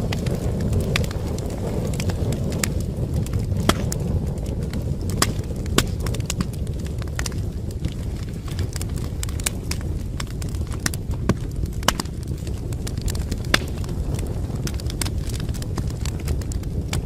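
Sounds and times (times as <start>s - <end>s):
low rumble of burning: 0.0s - 17.0s
sharp snaps and pops: 0.0s - 17.0s
wood fire crackling: 0.0s - 17.0s.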